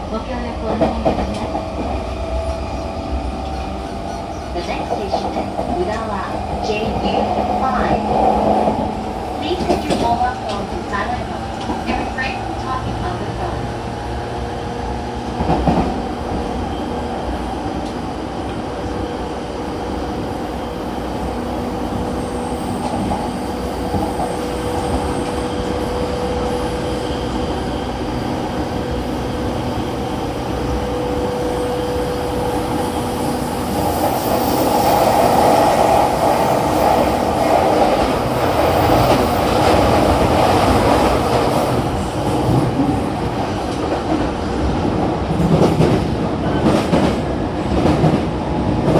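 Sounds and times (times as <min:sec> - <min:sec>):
train wheel and rail noise: 0:00.0 - 0:48.9.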